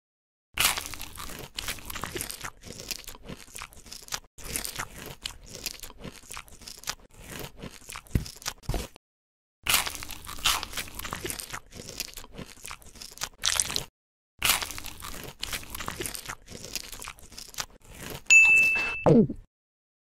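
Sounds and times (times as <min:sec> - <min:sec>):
crisp crunching and crackling: 0:00.6 - 0:09.0, 0:09.7 - 0:18.3.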